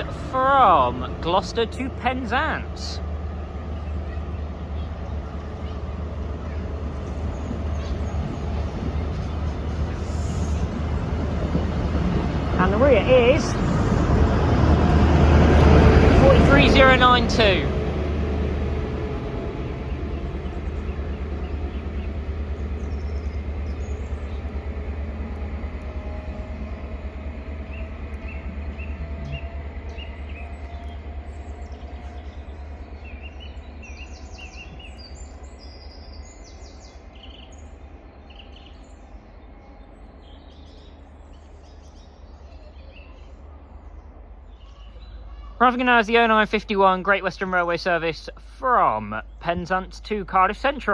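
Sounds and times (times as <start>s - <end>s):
birds chirping: 0.0s - 50.9s
diesel train departing: 0.0s - 50.9s.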